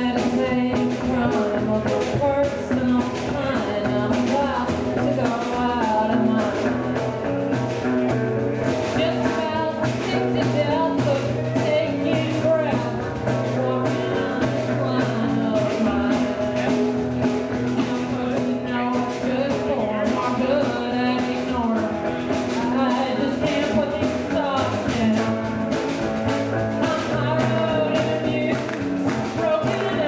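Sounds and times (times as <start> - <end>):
woman singing: 0.0 - 7.8, 8.8 - 30.0
guitars playing: 0.0 - 30.0.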